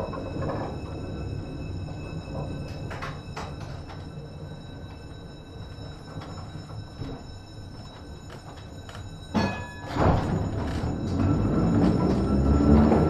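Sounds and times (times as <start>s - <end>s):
light clicks and creaks: 0.0s - 12.4s.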